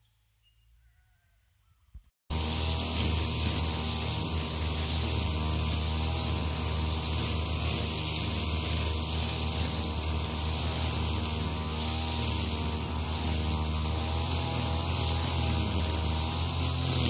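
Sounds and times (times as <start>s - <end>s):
brushcutter engine running: 2.3s - 17.0s.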